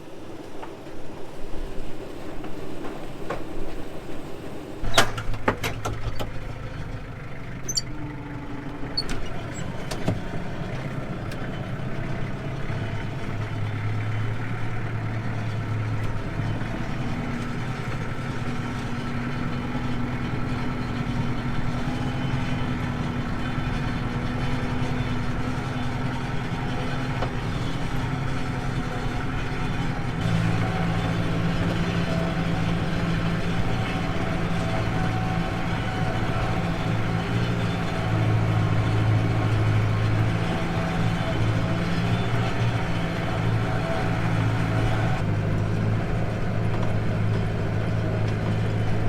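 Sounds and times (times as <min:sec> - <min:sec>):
engine running: 0:00.0 - 0:49.0.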